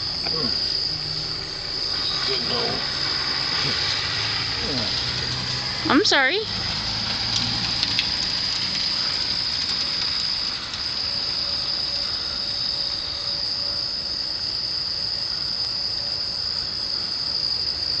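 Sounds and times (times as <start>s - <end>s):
insects singing: 0.0s - 18.0s.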